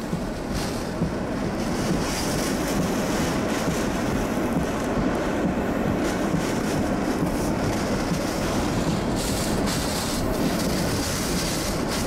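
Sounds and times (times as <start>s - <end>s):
driving rain: 0.0s - 12.0s
strong wind buffeting microphone: 0.0s - 12.0s.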